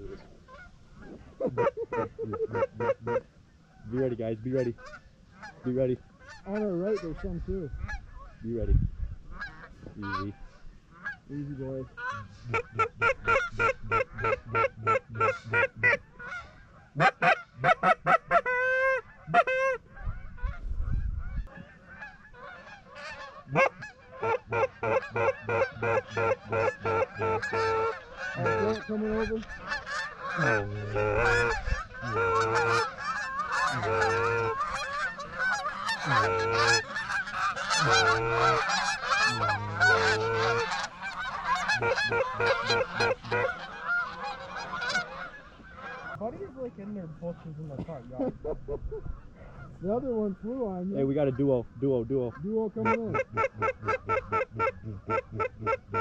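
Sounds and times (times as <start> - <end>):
geese honking: 0.0 - 8.5, 9.2 - 56.0.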